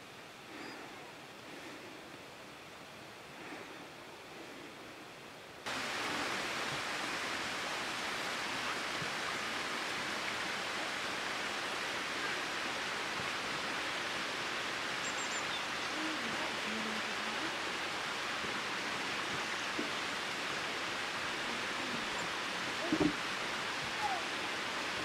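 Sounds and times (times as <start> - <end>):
steady outdoor rushing hiss: 0.0 - 25.0.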